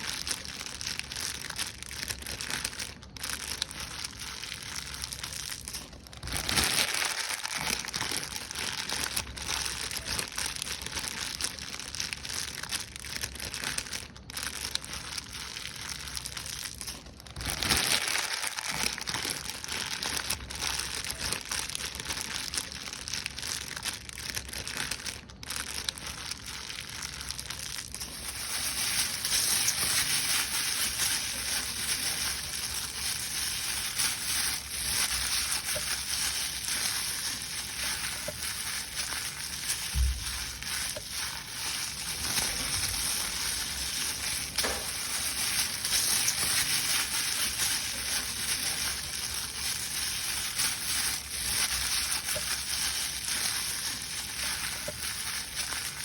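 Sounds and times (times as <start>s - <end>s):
paper being crumpled: 0.0s - 56.0s.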